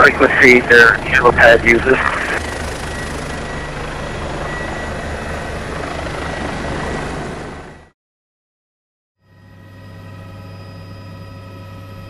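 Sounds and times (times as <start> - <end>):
helicopter rotor beat: 0.0 - 7.9, 9.3 - 12.0
helicopter turbine whine: 0.0 - 7.9, 9.2 - 12.0.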